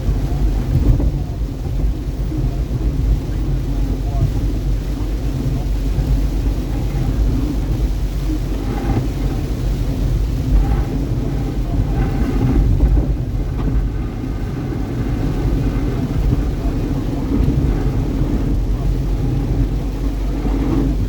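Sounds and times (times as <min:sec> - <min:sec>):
car driving on a freeway: 0:00.0 - 0:21.0.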